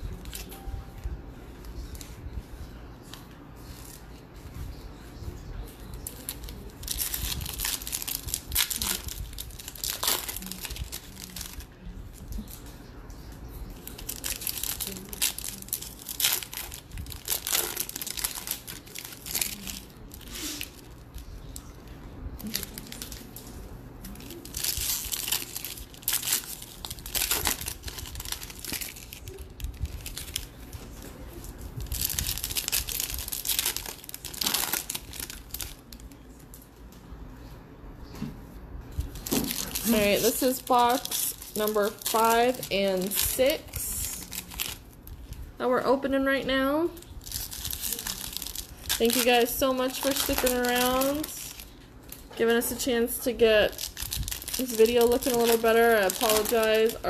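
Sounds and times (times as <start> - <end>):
wrappers torn and crumpled: 5.8 - 13.0, 13.7 - 21.7, 22.4 - 36.5, 39.0 - 45.4, 47.0 - 57.0.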